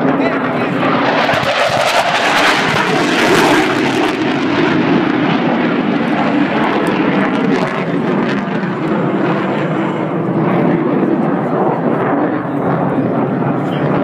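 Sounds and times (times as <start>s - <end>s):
fighter jet engine roaring: 0.0s - 14.0s.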